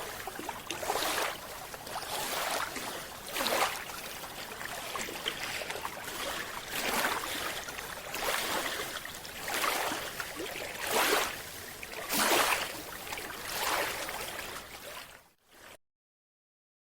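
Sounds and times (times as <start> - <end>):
water sloshing in surges: 0.0 - 15.8.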